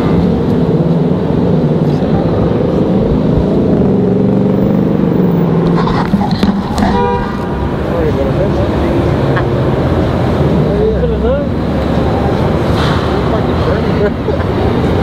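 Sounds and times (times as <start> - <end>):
car engines passing: 0.0 - 15.0
low traffic rumble: 0.0 - 15.0.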